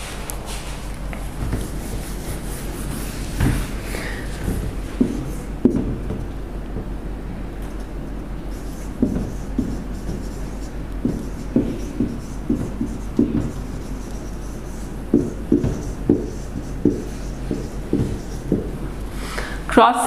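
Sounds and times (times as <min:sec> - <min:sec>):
low steady hum: 0:00.0 - 0:20.0
marker writing on whiteboard: 0:00.5 - 0:06.9, 0:07.7 - 0:19.2.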